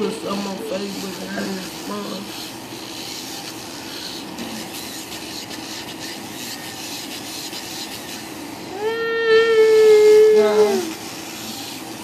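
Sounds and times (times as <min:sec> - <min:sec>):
faint rasping rub: 0:00.0 - 0:12.0.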